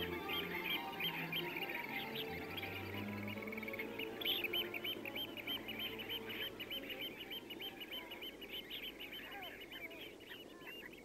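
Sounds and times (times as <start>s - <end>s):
birds piping calls: 0.0s - 11.0s.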